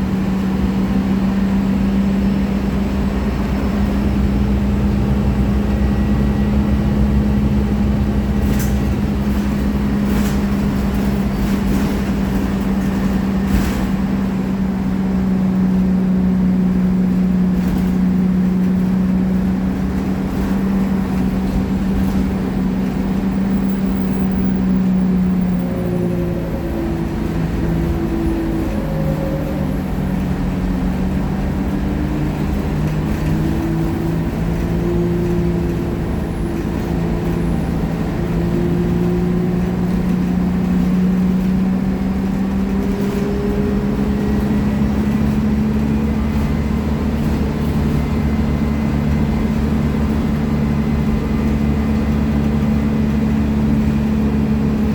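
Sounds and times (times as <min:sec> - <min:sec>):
bus engine running: 0:00.0 - 0:54.9.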